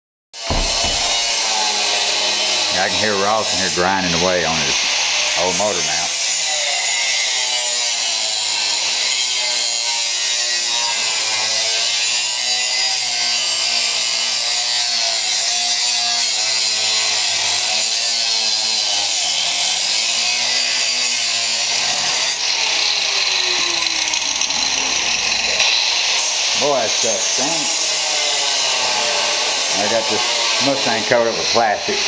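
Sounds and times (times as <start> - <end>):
grinder grinding metal: 0.4 - 32.0.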